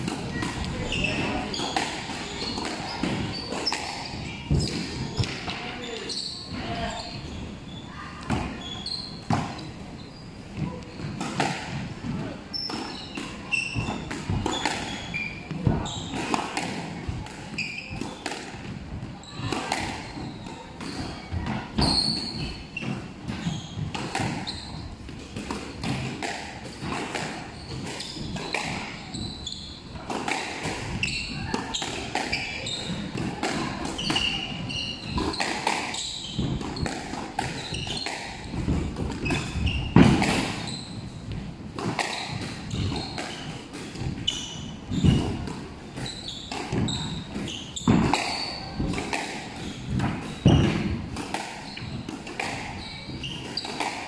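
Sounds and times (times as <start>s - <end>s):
squash ball hits echoing: 0.0s - 6.8s, 10.6s - 54.0s.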